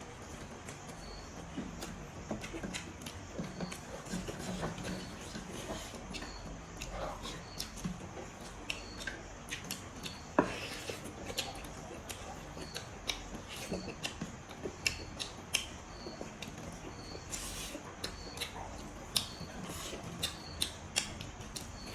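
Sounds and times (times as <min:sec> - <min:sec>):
person chewing meat: 0:00.1 - 0:21.9.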